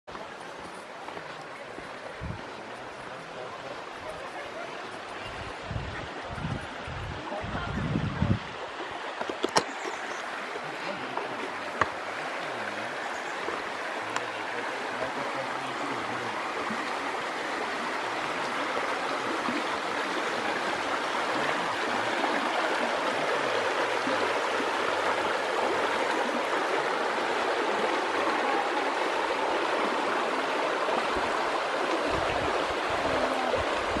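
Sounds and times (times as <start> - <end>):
river rushing over rocks: 0.1 - 34.0.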